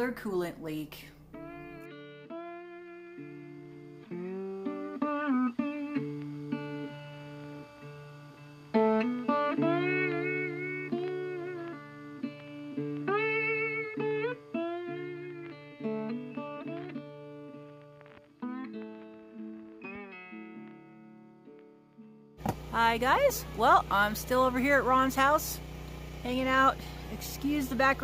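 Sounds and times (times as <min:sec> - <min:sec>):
plucked guitar music: 0:01.3 - 0:28.0.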